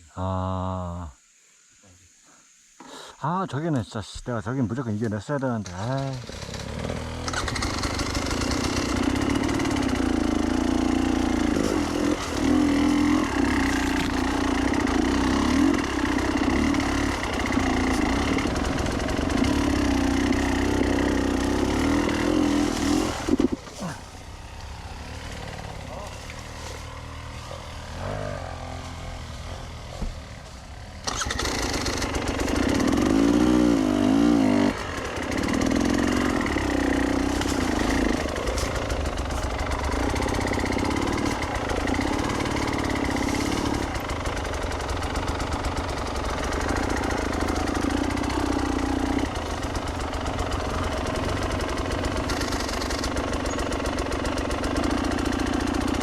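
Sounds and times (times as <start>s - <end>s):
dirt bike engine revving: 5.6s - 56.0s.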